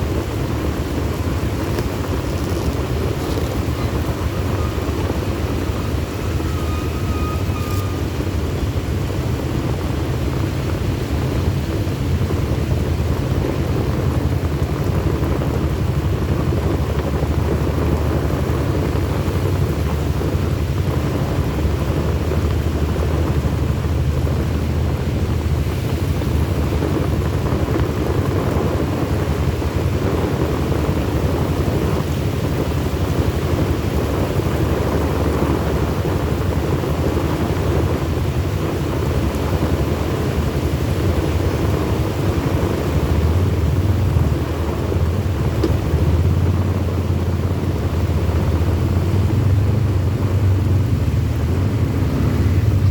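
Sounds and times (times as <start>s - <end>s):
rain hiss: 0.0s - 52.9s
road noise rumble: 0.0s - 52.9s.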